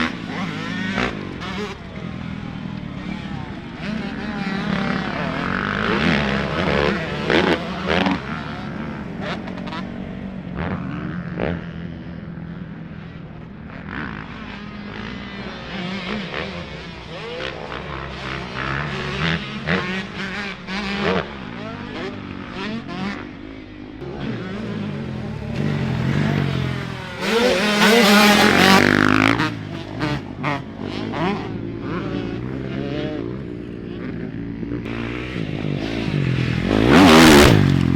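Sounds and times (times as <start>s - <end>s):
dirt bike engines revving: 0.0s - 37.9s
dirt bike passing close: 0.0s - 37.9s.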